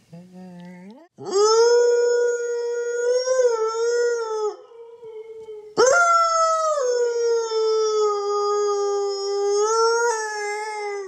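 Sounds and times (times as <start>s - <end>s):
dog howling: 1.2s - 11.0s.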